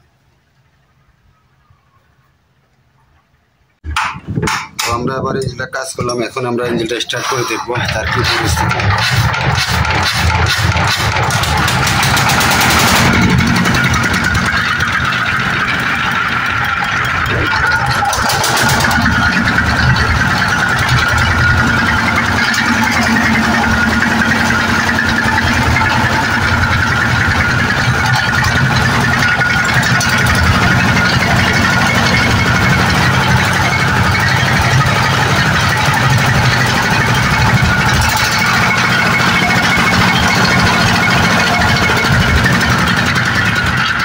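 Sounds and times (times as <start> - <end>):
diesel engine running: 3.9 - 44.0.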